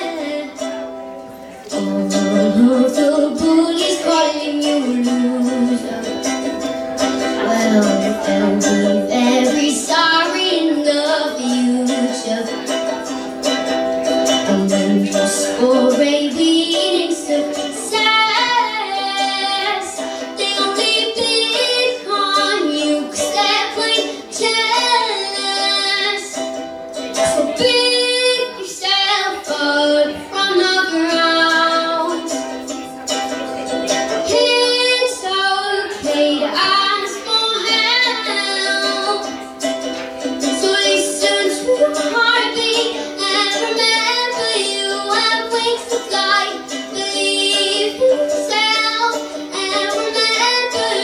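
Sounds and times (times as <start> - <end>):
woman singing: 0.0 - 0.8, 1.7 - 6.6, 7.2 - 13.1, 14.3 - 26.4, 27.2 - 32.4, 33.5 - 39.5, 40.3 - 51.0
strummed acoustic strings: 0.0 - 51.0.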